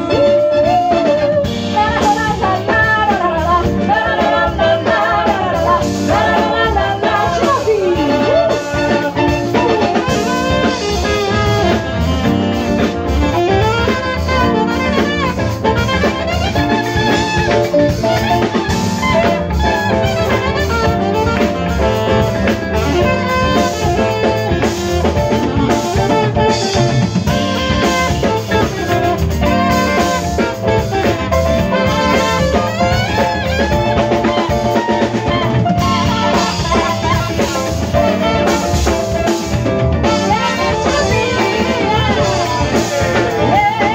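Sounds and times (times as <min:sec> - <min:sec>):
person singing: 0:00.0 - 0:12.2, 0:18.1 - 0:43.9
drum kit: 0:00.0 - 0:43.9
electric bass: 0:00.0 - 0:43.9
horn section: 0:00.0 - 0:43.9
keyboard: 0:00.0 - 0:43.9.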